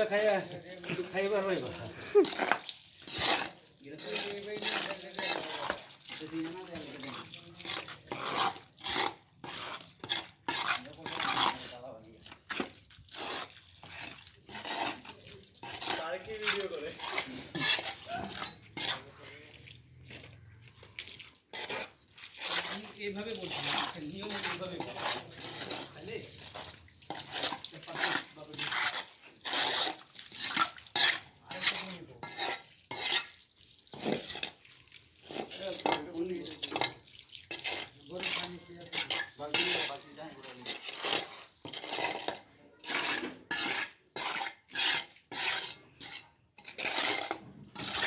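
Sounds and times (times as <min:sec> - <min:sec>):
metal tools scraping wet concrete: 0:00.0 - 0:48.0.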